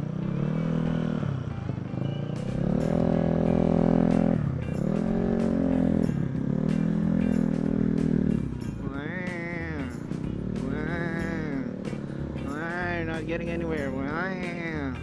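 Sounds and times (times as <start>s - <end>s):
motorcycle engine pulling away: 0.0s - 15.0s.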